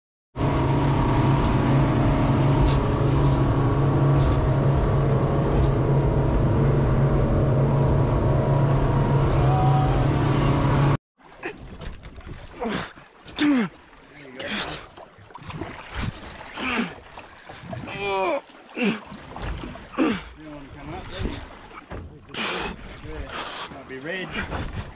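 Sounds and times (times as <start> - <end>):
motorboat engine droning: 0.4 - 11.0, 12.6 - 24.4.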